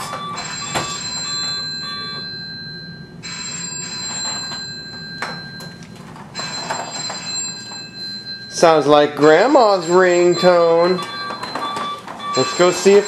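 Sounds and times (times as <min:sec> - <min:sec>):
phone ringtone ringing: 0:00.0 - 0:13.0.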